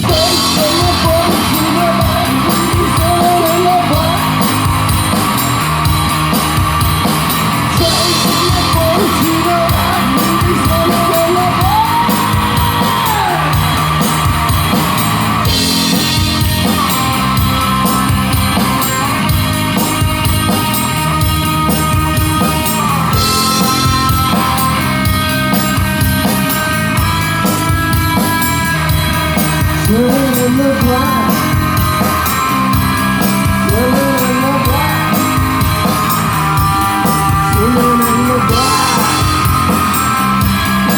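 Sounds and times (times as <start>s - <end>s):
bending guitar lead line: 0.0s - 40.9s
live rock band playing: 0.0s - 40.9s.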